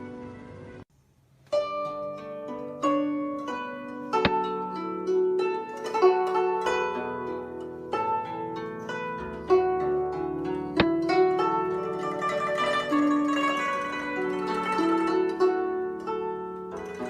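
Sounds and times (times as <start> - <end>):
plucked zither-like string music: 1.4 - 17.0.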